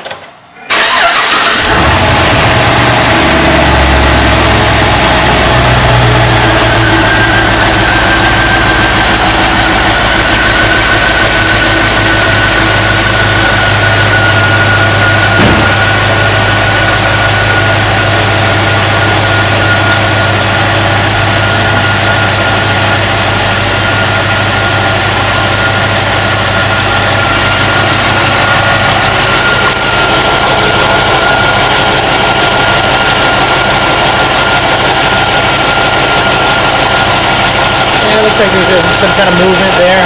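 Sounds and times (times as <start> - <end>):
supercharger whine: 0.4 - 40.0
engine idling: 0.7 - 40.0.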